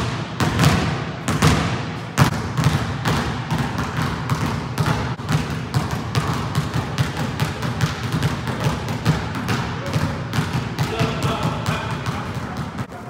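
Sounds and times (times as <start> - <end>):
basketball bouncing on hard court: 0.0 - 13.0.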